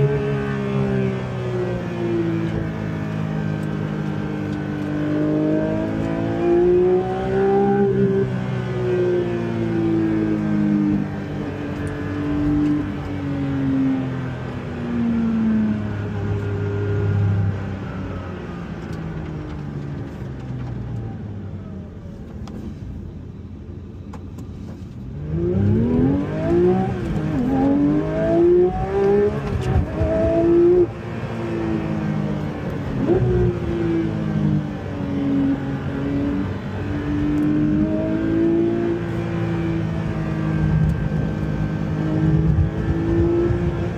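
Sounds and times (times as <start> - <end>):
car engine revving through gears: 0.0 - 20.8, 25.1 - 43.9.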